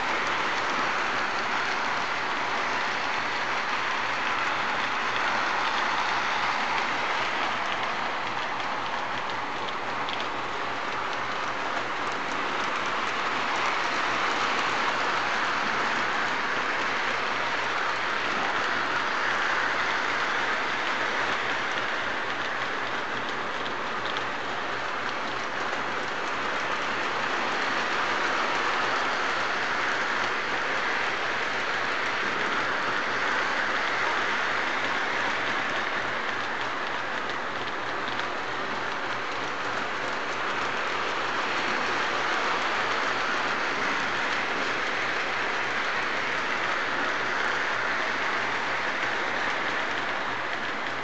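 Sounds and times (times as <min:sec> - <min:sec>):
model train running on track: 0:00.0 - 0:51.0.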